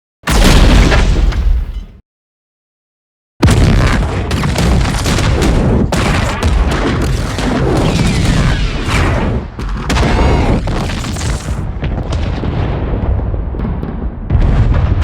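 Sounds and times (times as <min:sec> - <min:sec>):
explosion booms and blasts: 0:00.2 - 0:02.0, 0:03.4 - 0:15.0.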